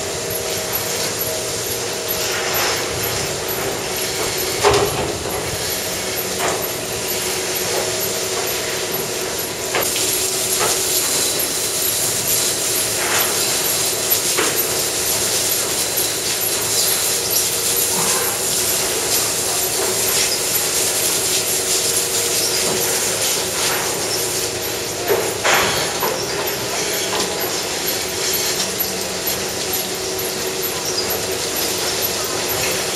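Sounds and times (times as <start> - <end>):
milking machines humming and hissing: 0.0 - 32.9.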